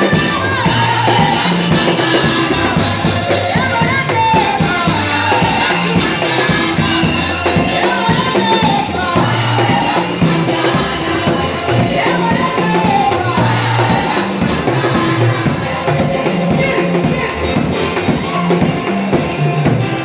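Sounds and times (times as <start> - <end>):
band with drums and bass: 0.0 - 20.0
voices singing: 0.0 - 20.0.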